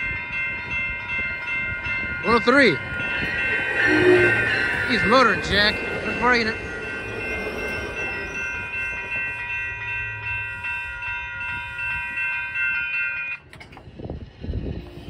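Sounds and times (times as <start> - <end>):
crossing bell ringing: 0.0 - 13.6
railcar rumbling past: 0.0 - 15.0.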